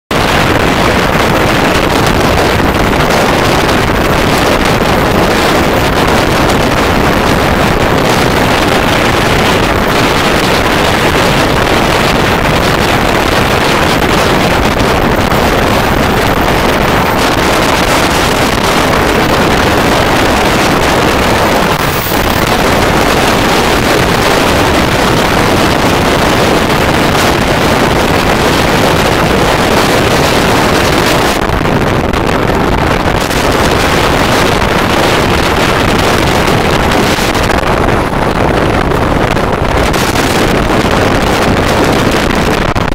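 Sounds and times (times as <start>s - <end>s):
train running at speed: 0.1s - 42.9s
wind on microphone: 0.1s - 42.9s.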